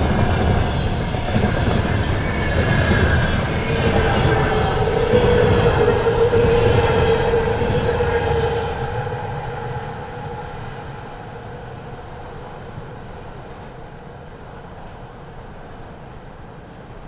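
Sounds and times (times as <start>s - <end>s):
train wheels rumbling: 0.0s - 13.8s
singing tone from train cars: 0.0s - 15.7s.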